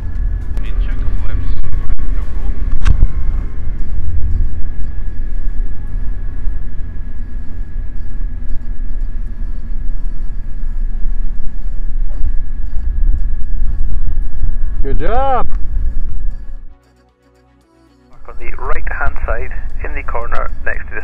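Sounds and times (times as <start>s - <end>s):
piston engine drone: 0.0s - 17.1s, 18.2s - 21.0s.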